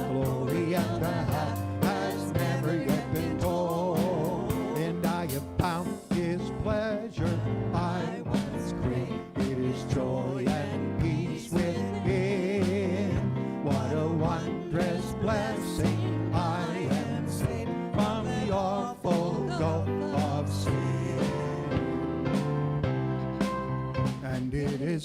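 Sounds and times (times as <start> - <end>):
person singing with vibrato: 0.0 - 21.9
church band playing a hymn: 0.0 - 25.0.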